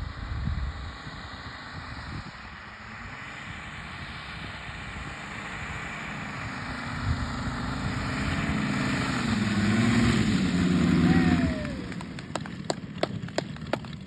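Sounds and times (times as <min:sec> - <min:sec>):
model plane engines running: 0:00.0 - 0:14.0.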